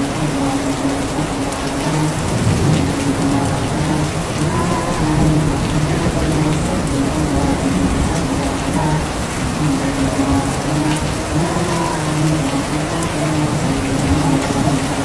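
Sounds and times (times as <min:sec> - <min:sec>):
low sung chanting: 0:00.0 - 0:15.0
steady rain: 0:00.0 - 0:15.0
rumble of thunder: 0:01.8 - 0:15.0.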